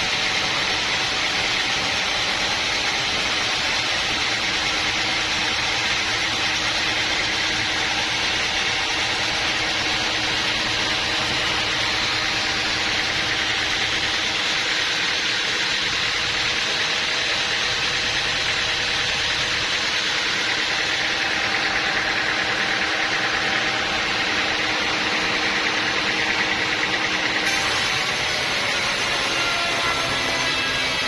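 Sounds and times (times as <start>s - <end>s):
sawmill machinery humming and hissing: 0.0s - 31.0s.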